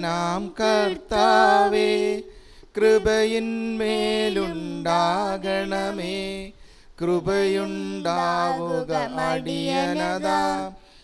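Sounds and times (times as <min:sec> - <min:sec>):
person singing slow hymn: 0:00.0 - 0:11.0.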